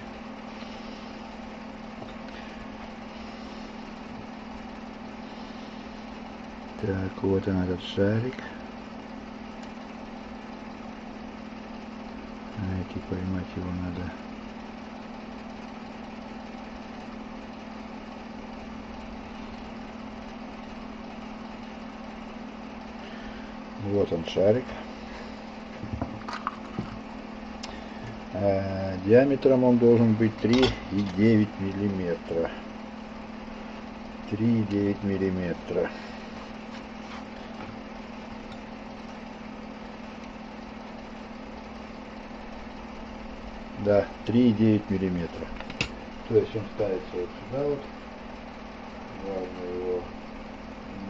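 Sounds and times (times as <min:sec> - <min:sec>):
machine hum: 0:00.0 - 0:51.0.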